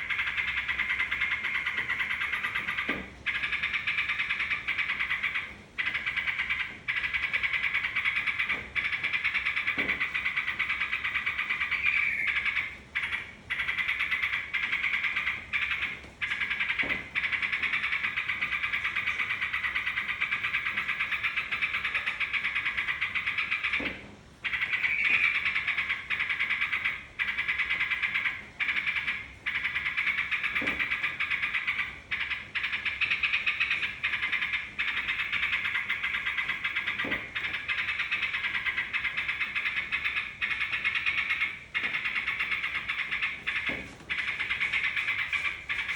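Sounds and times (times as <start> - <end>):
bulbuls chattering chorus: 0.0 - 45.9.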